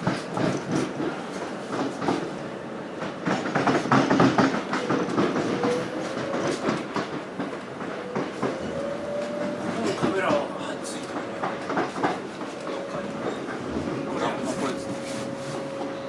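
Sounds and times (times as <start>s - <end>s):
train wheels clattering over rail joints: 0.0s - 2.4s, 3.0s - 16.0s.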